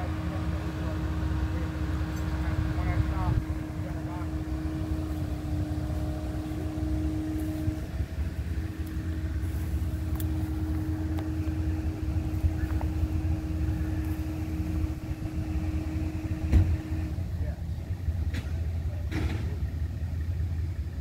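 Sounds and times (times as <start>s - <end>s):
constant tone: 0.0s - 21.0s
engine idling rumble: 0.0s - 21.0s.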